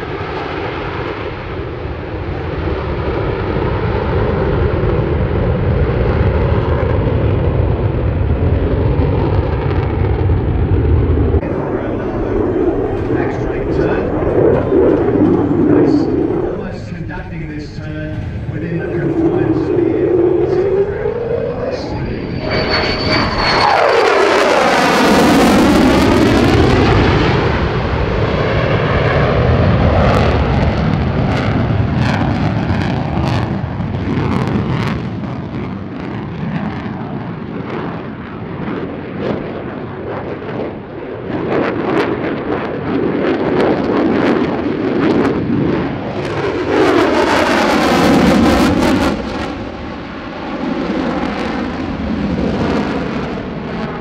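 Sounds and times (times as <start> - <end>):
afterburner roar: 0.0 - 54.0
jet engine roaring past: 0.0 - 54.0.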